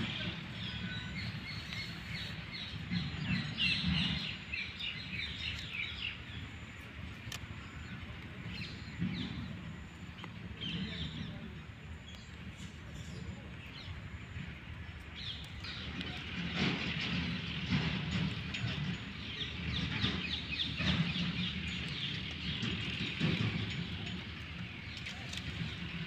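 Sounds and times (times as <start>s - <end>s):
low outdoor rumble: 0.0s - 26.0s
small birds chirping: 0.0s - 26.0s.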